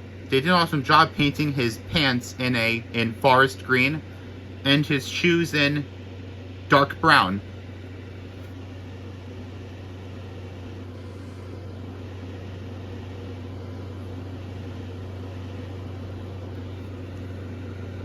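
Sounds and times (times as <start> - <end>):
fan running hum and hiss: 0.0 - 18.0.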